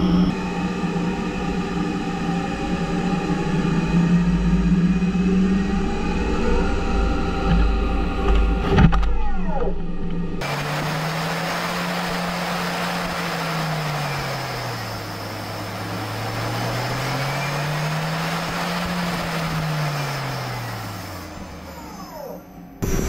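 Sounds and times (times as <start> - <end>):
lathe spindle hum: 0.0 - 8.6, 10.4 - 23.0.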